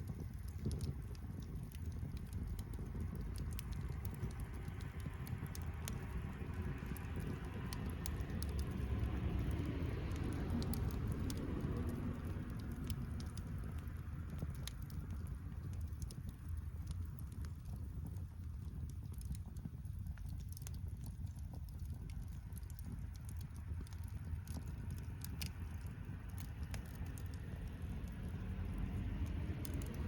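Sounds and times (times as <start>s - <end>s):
low fire rumble: 0.0s - 30.0s
wood fire crackling and popping: 0.0s - 30.0s.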